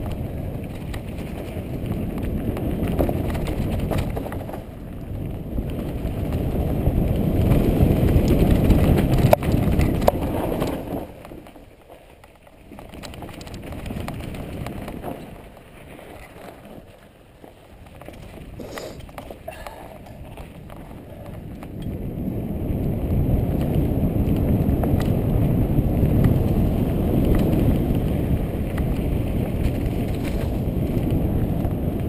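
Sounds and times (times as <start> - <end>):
bike tyres rumbling on dirt trail: 0.0 - 32.0.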